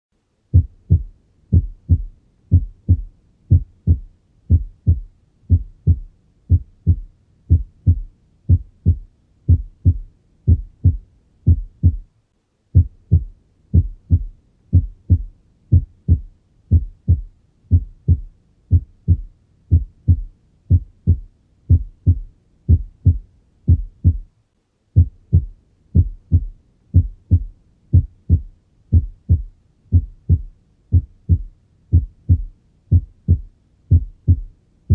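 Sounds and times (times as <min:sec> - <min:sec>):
heartbeat lub-dub: 0:00.5 - 0:24.3, 0:25.0 - 0:34.9.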